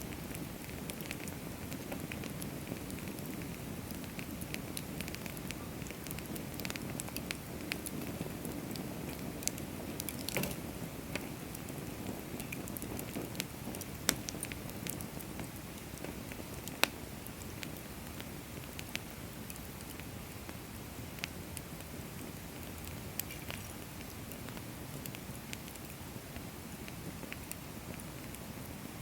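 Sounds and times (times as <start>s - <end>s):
wood crackling and popping: 0.0s - 29.0s.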